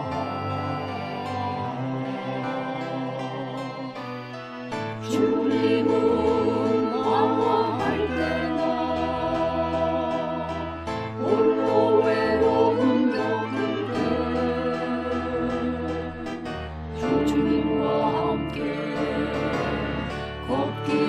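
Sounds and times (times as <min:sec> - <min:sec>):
sacred choir singing: 0:00.0 - 0:21.0.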